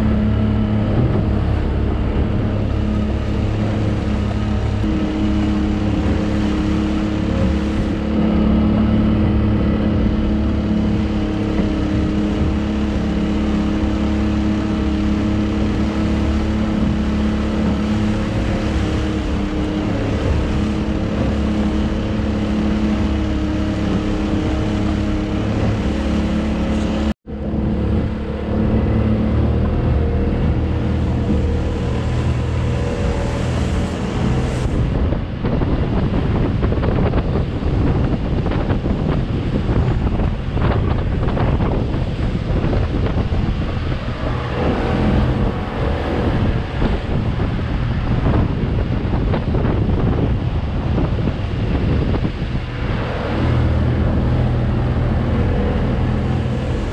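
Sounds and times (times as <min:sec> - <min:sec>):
outboard motor running: 0:00.0 - 0:56.9
water rushing from wake: 0:00.0 - 0:56.9.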